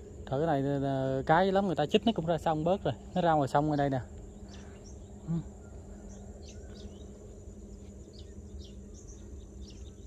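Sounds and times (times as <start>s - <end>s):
high-pitched insect drone: 0.0s - 10.0s
low steady hum: 0.0s - 10.0s.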